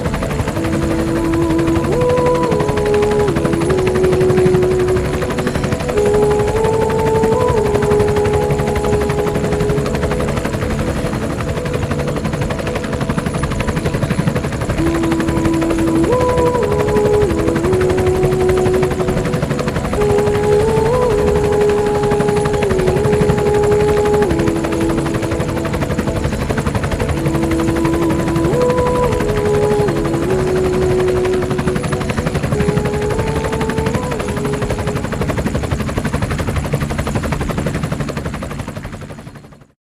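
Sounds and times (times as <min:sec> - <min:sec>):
helicopter rotor chop: 0:00.0 - 0:39.7
helicopter engine hum: 0:00.0 - 0:39.8.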